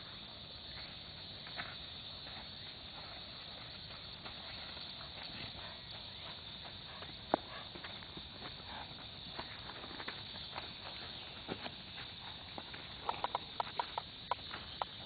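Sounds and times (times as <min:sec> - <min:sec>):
horse hooves clopping on dirt: 0:00.0 - 0:15.0.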